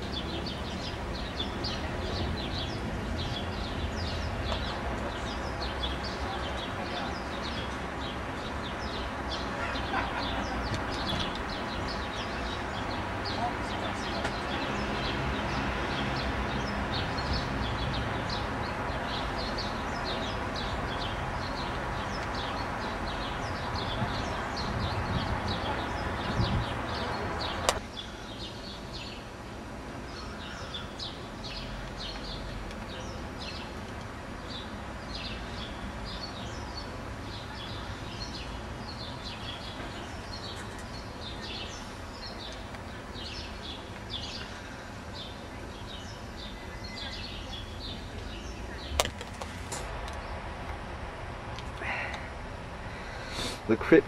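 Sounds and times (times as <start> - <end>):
small birds chirping: 0.0 - 50.9
street background noise: 0.0 - 54.0.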